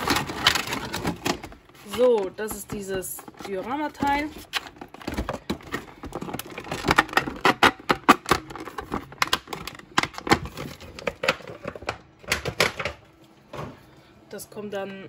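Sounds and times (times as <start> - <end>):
plastic packaging crackling: 0.0 - 12.9.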